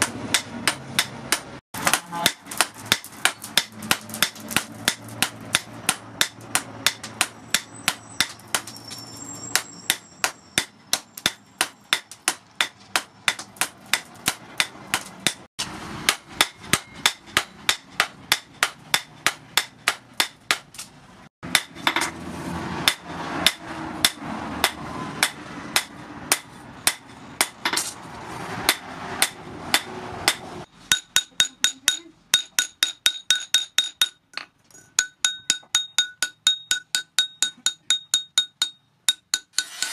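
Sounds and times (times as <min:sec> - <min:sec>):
hammer striking hot steel on anvil: 0:00.0 - 0:22.2, 0:22.8 - 0:28.0, 0:28.7 - 0:39.9.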